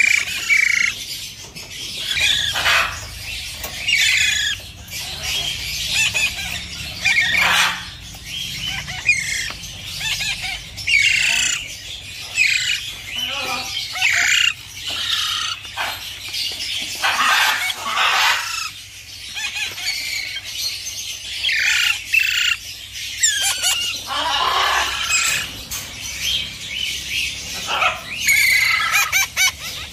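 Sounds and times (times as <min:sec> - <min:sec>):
parakeets squawking: 0:00.0 - 0:29.9.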